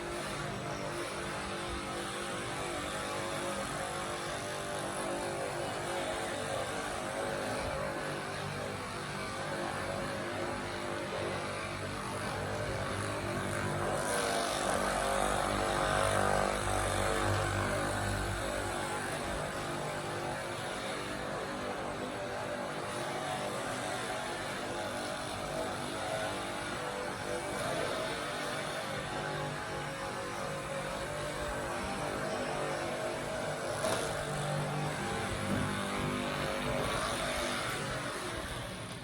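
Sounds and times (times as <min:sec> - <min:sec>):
motor hum: 0:00.0 - 0:39.0.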